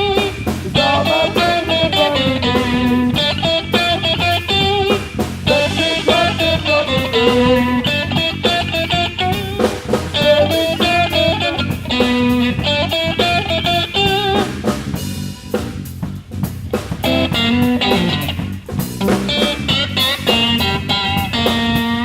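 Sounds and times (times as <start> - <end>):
electric guitar lead: 0.0 - 15.8, 16.7 - 22.0
bass guitar: 0.0 - 22.0
drum kit: 0.0 - 22.0.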